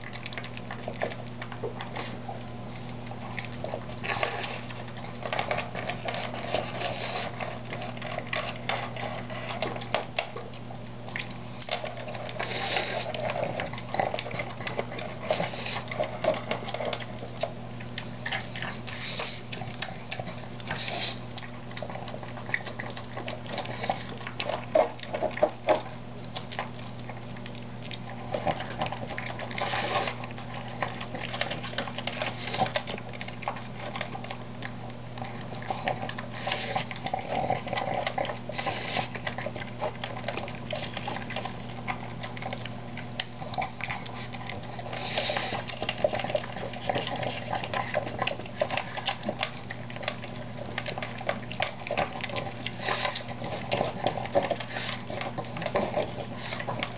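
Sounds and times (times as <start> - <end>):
dog chewing dry food: 0.0 - 56.9.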